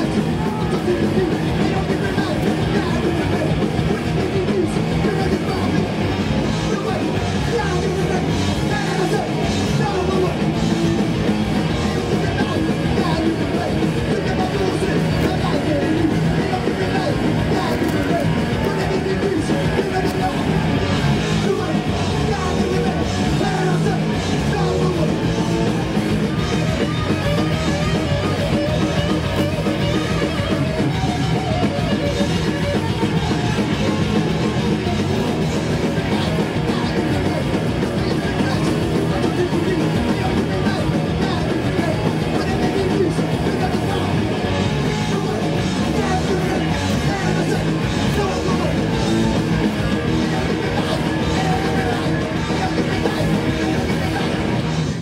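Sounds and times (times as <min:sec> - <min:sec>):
bass guitar: 0:00.0 - 0:55.0
distorted electric guitars: 0:00.0 - 0:55.0
shouted vocals: 0:00.0 - 0:55.0.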